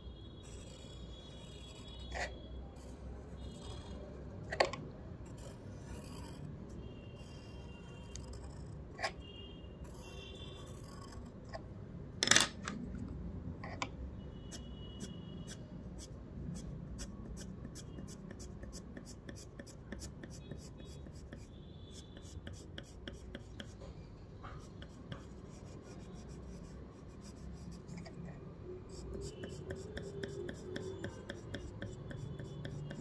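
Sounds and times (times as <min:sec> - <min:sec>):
pencil scratching on paper: 0:00.4 - 0:04.6, 0:05.2 - 0:09.2, 0:09.8 - 0:11.5, 0:14.5 - 0:33.0.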